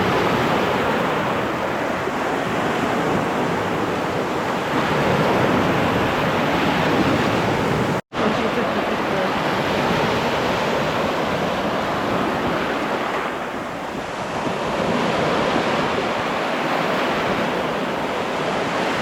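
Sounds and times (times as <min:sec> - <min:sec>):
waves washing on sand: 0:00.0 - 0:19.0
wind buffeting microphone: 0:00.0 - 0:19.0.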